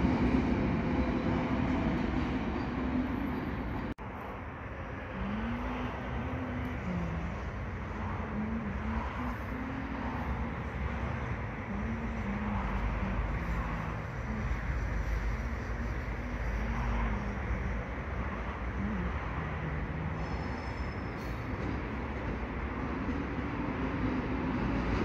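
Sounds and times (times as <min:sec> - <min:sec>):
distant road traffic: 0:00.0 - 0:25.0.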